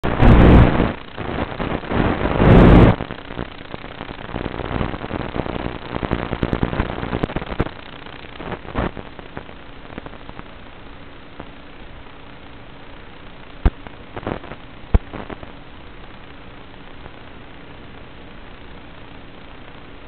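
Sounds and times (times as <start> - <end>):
crackly hiss: 0.0 - 20.0.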